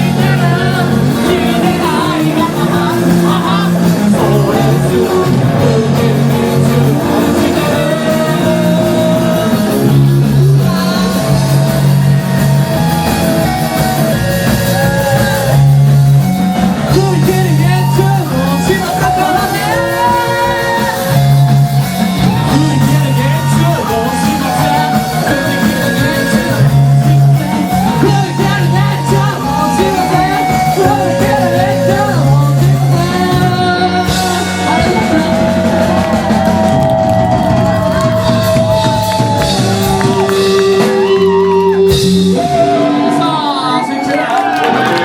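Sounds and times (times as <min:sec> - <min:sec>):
person singing: 0:00.0 - 0:45.0
rock band playing live: 0:00.0 - 0:45.0.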